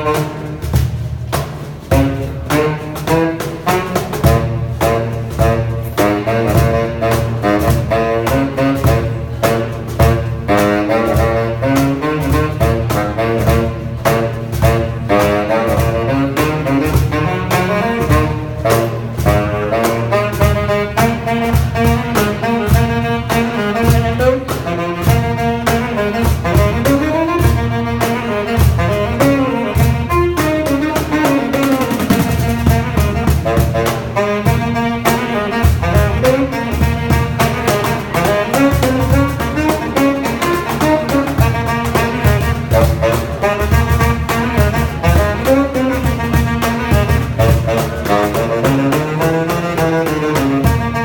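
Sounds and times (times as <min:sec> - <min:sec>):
saxophone jazzy melody: 0:00.0 - 0:51.0.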